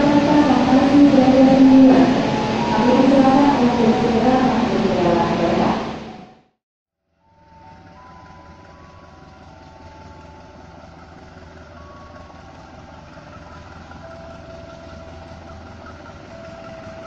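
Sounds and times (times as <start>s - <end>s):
faint steady whines: 0.0s - 6.6s, 7.2s - 17.0s
diesel engine low hum: 0.0s - 17.0s.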